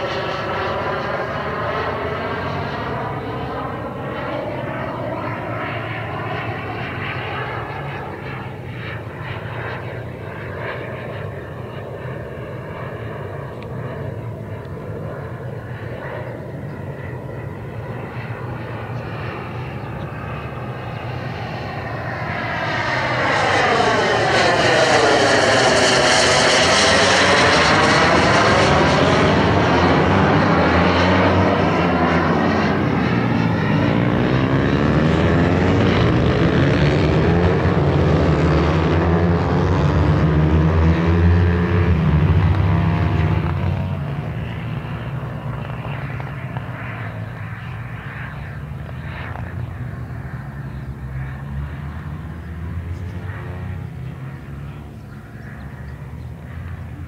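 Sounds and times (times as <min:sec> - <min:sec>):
model jet whine flying by: 0:00.0 - 0:57.0.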